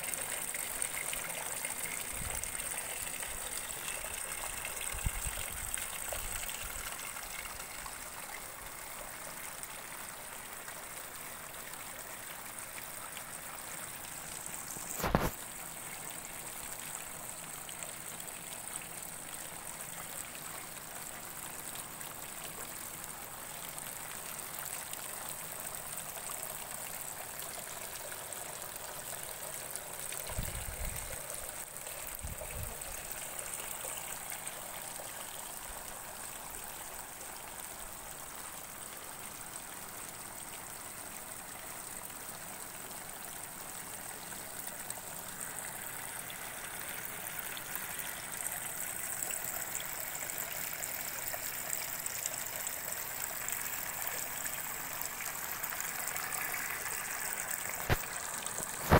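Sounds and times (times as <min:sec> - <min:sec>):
trickle of running water: 0:00.0 - 0:58.9.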